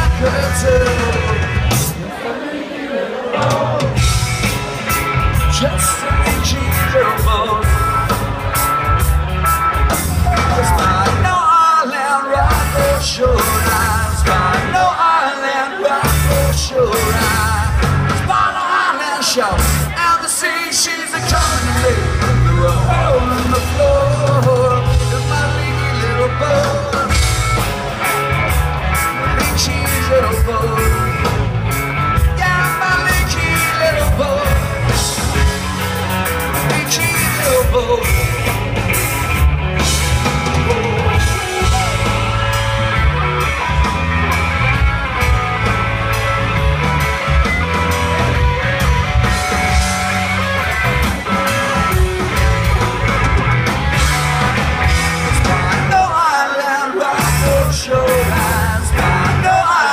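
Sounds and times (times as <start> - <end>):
live rock band playing: 0.0 - 2.4, 3.2 - 59.9.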